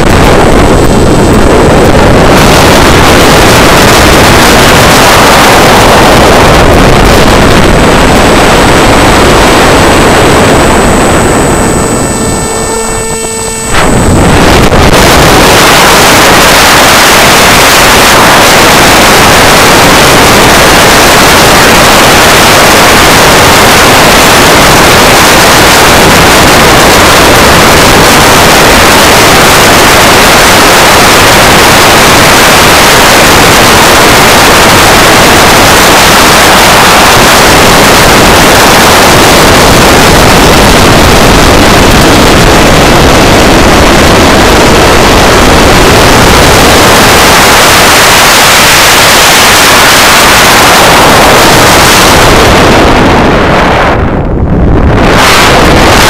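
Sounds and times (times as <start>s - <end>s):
brief whine: 0.0s - 56.0s
loud wind rush on microphone: 0.0s - 56.0s.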